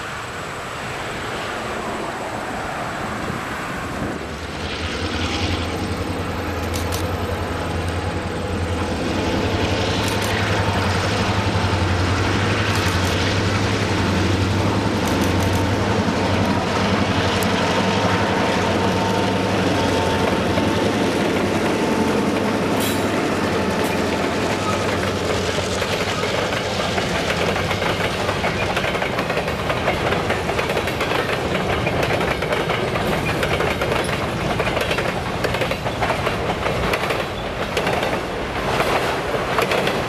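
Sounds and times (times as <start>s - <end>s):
diesel locomotive engines droning: 0.0s - 40.0s
freight cars rolling by: 0.0s - 40.0s.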